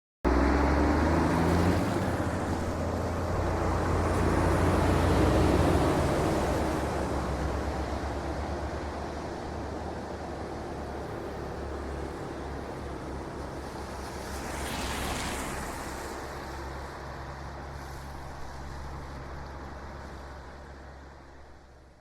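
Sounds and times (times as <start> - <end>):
passing vehicles rumble: 0.3 - 22.0.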